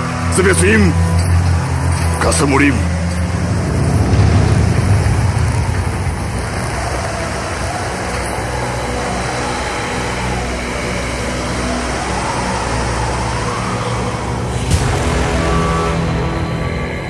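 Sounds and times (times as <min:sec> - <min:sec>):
dense low rumble drone: 0:00.0 - 0:17.0.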